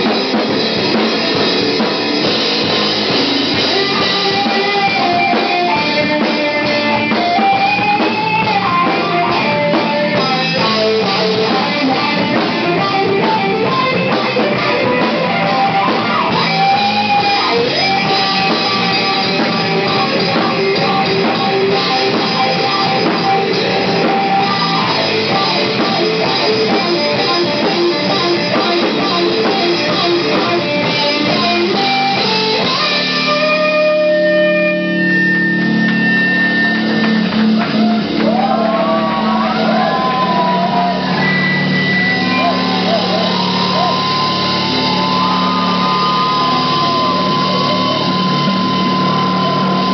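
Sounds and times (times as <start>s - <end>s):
bass guitar: 0.0s - 49.9s
drum kit: 0.0s - 49.9s
electric guitars: 0.0s - 49.9s.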